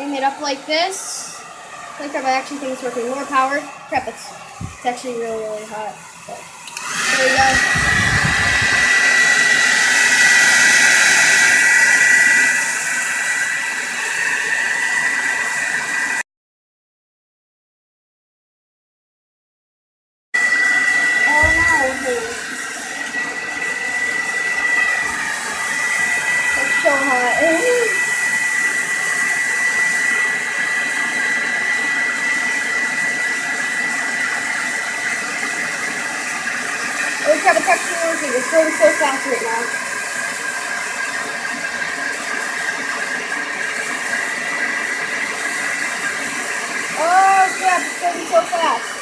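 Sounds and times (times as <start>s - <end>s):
blow dryer running: 0.0s - 16.2s, 20.4s - 49.0s.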